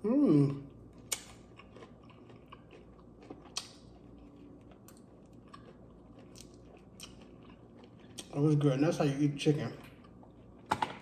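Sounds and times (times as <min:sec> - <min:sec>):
person chewing and smacking: 0:00.7 - 0:08.6, 0:09.7 - 0:10.8.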